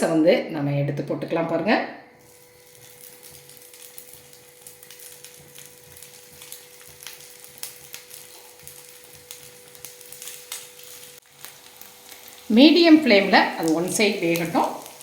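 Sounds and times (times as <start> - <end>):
batter sizzling in oil: 2.2 - 15.0.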